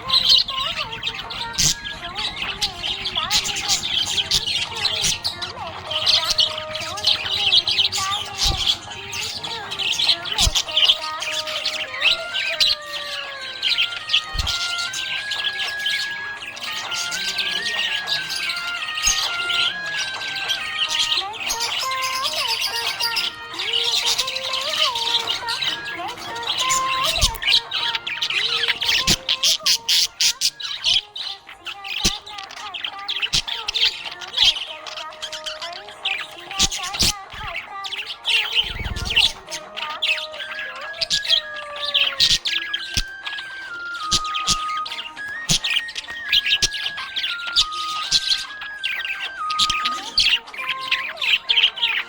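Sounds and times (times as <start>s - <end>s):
budgerigars chirping: 0.0s - 52.0s.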